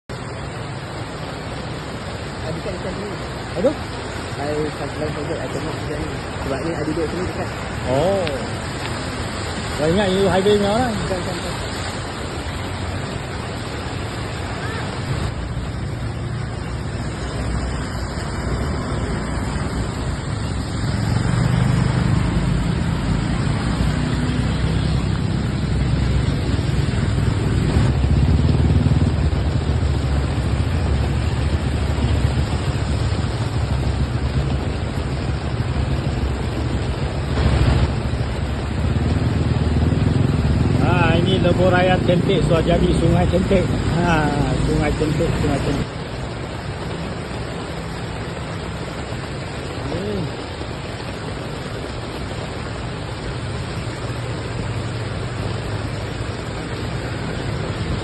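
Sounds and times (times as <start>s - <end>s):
heavy rain: 0.0s - 58.0s
traffic on wet road: 0.0s - 58.0s.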